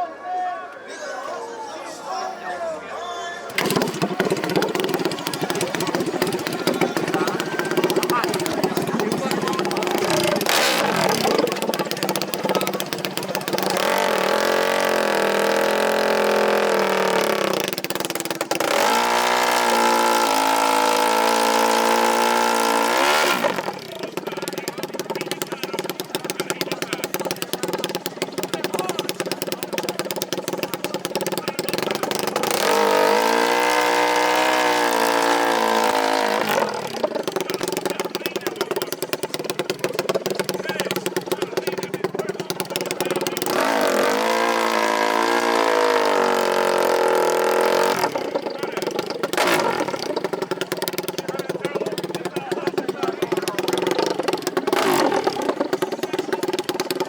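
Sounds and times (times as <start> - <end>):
racing engines revving hard: 3.5 - 57.0.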